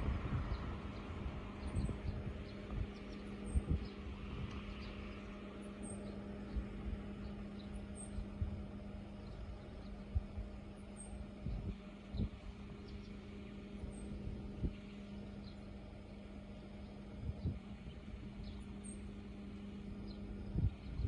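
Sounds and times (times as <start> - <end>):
steady low hum: 0.0 - 21.0
wind rumbling on microphone: 0.0 - 21.0.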